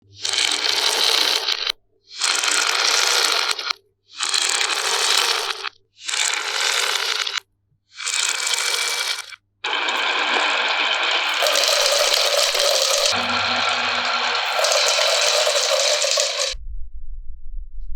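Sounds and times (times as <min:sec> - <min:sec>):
marbles rolling with rattling scrape: 0:00.2 - 0:07.4, 0:08.0 - 0:16.6.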